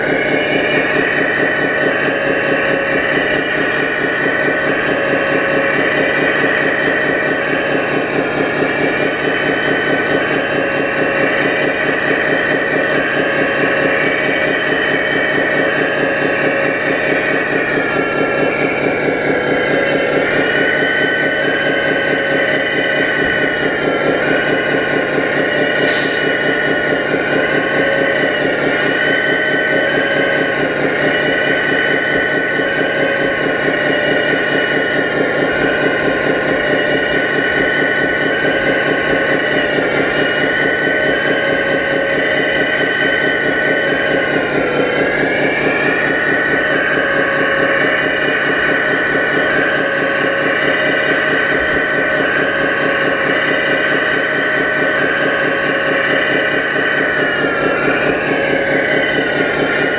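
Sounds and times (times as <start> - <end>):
model excavator engine drone with whine: 0.0 - 59.9.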